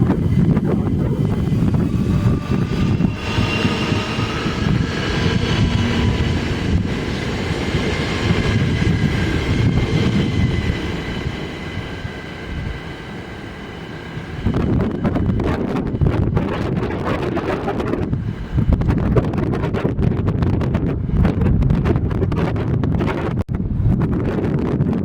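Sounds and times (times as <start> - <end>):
train passing rumble: 0.0 - 24.8.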